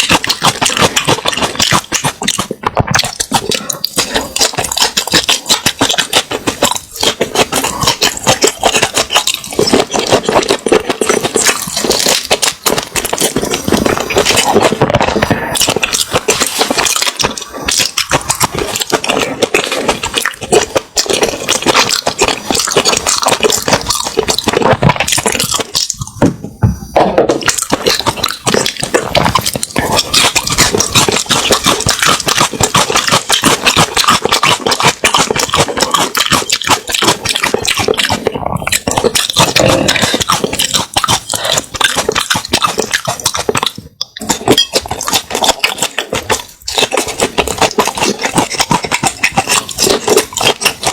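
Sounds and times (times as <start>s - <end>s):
wet chewing and smacking: 0.0s - 50.9s.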